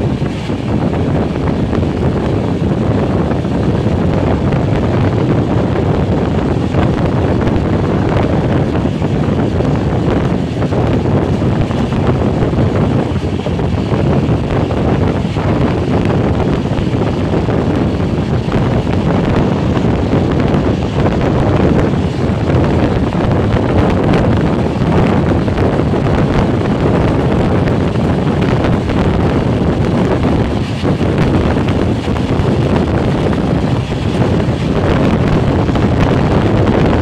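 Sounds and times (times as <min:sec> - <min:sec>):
train rumbling on rails: 0:00.0 - 0:37.0
wind buffeting microphone: 0:00.0 - 0:37.0.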